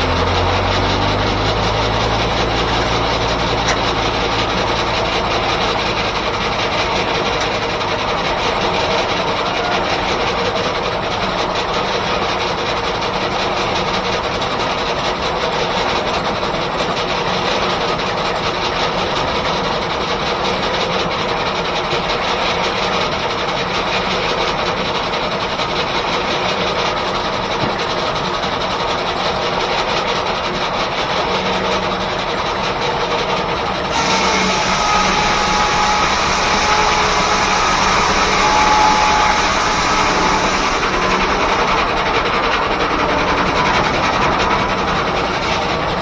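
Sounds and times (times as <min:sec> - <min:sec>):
sawmill mechanical clatter: 0:00.0 - 0:46.0.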